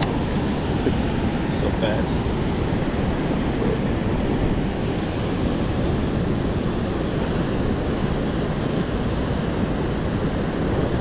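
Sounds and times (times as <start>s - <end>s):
river rushing: 0.0s - 11.0s
wind buffeting microphone: 0.0s - 11.0s.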